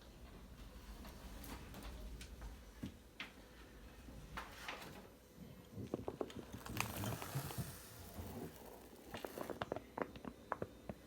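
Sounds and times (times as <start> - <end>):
ventilator humming: 0.0 - 11.0.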